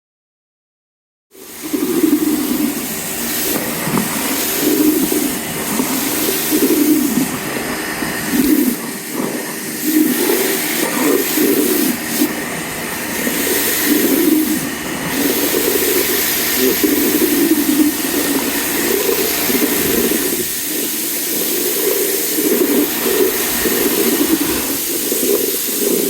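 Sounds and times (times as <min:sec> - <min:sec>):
pressure washer running: 0:01.4 - 0:26.0
water jet hissing on paving: 0:01.4 - 0:26.0.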